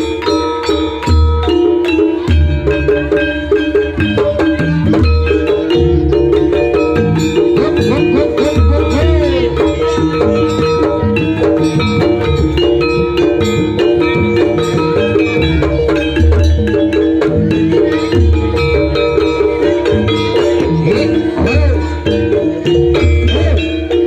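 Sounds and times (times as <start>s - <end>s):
deep drum beats: 0.0s - 24.0s
metallophones ringing: 0.0s - 24.0s.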